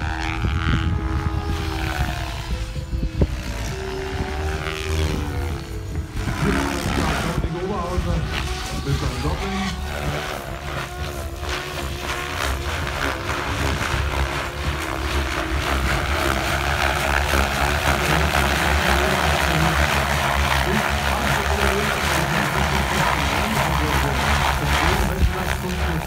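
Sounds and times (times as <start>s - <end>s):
rc helicopter rotor throb: 0.0s - 26.0s.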